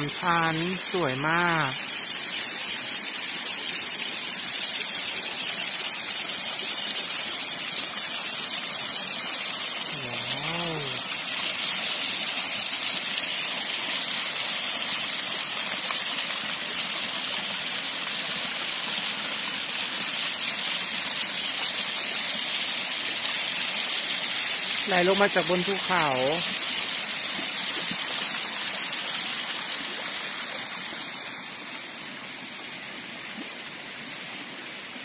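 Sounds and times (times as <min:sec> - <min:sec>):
waterfall splashing on rocks: 0:00.0 - 0:35.0.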